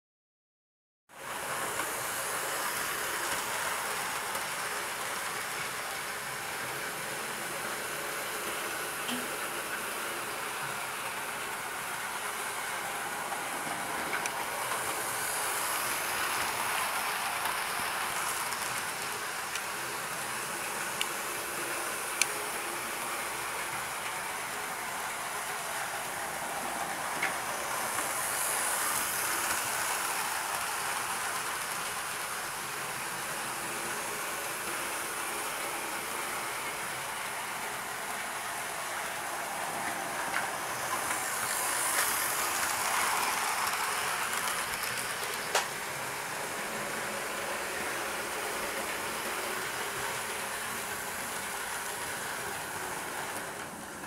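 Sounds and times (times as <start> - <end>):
model train whirring rattle: 1.3 - 54.0.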